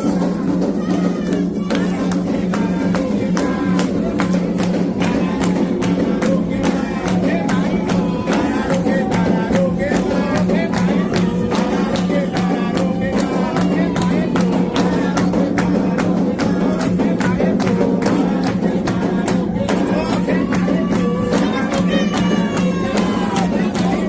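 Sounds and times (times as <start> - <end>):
drums and percussion rhythm: 0.0 - 24.0
voices singing: 0.0 - 24.0.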